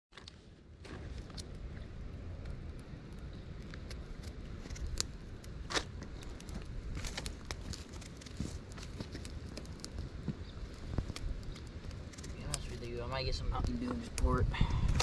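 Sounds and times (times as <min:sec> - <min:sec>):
wind rumble on microphone: 0:00.9 - 0:15.0.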